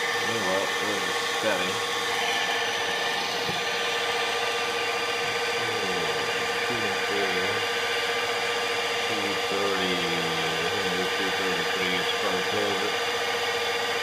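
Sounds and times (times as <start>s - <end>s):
milling machine motor whine: 0.0s - 14.0s.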